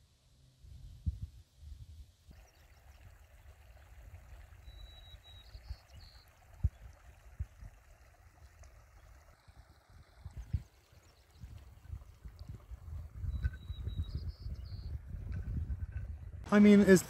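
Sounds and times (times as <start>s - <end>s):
stream running water: 2.2s - 17.0s.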